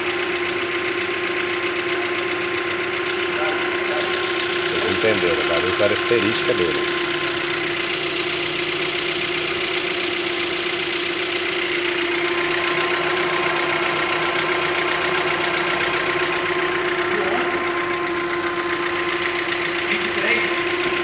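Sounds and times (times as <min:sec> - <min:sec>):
car engine idling: 0:00.0 - 0:21.0
engine ticking: 0:00.0 - 0:21.0.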